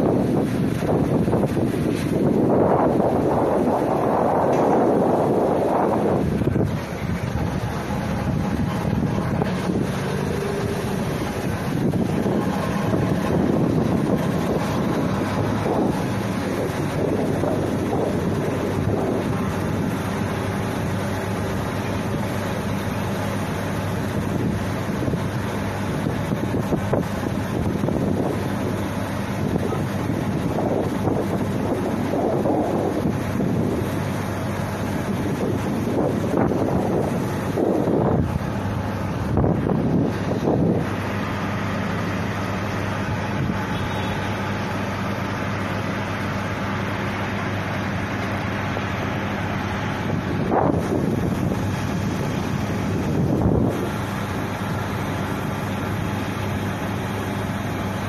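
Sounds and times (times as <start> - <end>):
airliner and tug roaring: 0.0 - 58.0
constant noisy rush: 0.0 - 58.0
tow tractor engine hum: 0.0 - 58.0.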